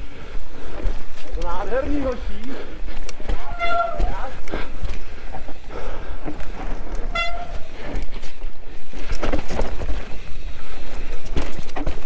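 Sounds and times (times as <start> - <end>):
bike rattling over rough ground: 0.0 - 12.0.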